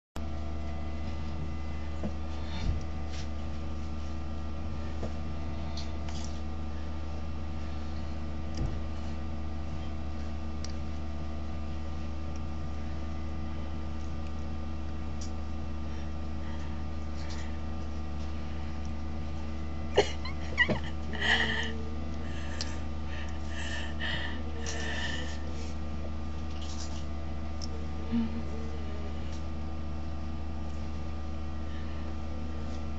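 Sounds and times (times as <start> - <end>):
electrical hum: 0.2 - 32.9.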